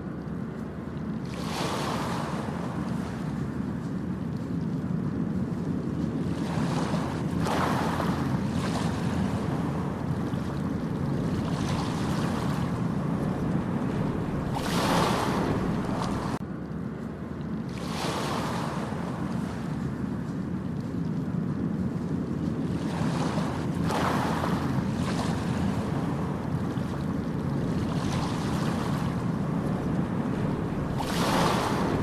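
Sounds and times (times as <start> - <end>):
wind on microphone: 0.0 - 17.0, 17.6 - 32.0
low rumble of surf: 0.0 - 32.0
ocean waves washing onto beach: 0.0 - 32.0.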